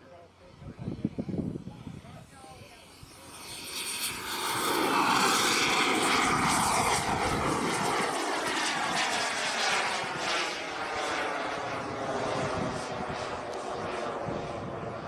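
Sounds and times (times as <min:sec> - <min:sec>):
model jet turbine roaring: 0:00.0 - 0:15.0.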